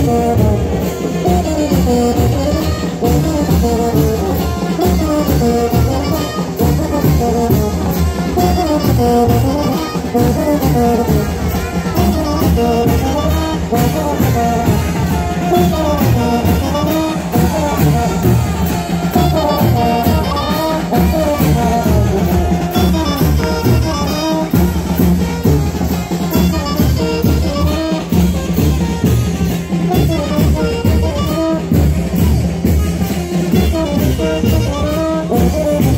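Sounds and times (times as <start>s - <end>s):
brass band playing dance music: 0.0s - 35.9s.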